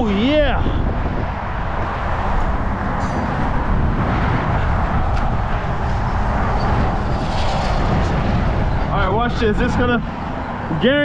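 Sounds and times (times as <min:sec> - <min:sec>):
road traffic noise: 0:00.0 - 0:11.0
wind rumbling on microphone: 0:00.0 - 0:11.0.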